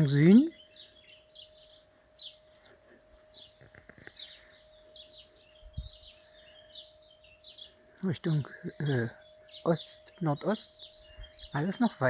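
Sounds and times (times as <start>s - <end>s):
faint steady hum: 0.0s - 11.6s
small birds chirping: 0.0s - 12.0s.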